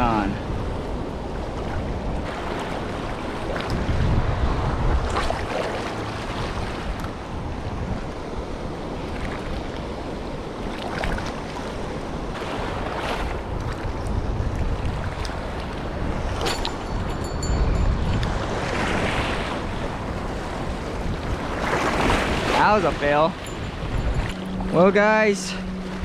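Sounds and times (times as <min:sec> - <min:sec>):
surf washing over reef: 0:00.0 - 0:26.0
wind buffeting microphone: 0:00.0 - 0:26.0.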